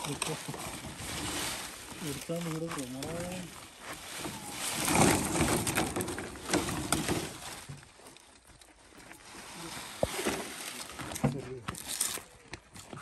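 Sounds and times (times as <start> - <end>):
plastic net rustling and scraping: 0.0 - 8.1, 9.0 - 12.3.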